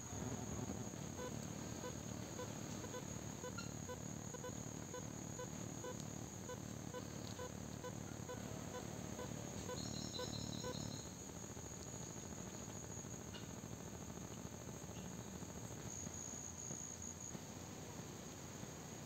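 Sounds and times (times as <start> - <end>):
high-pitched insect trill: 0.1 - 17.3.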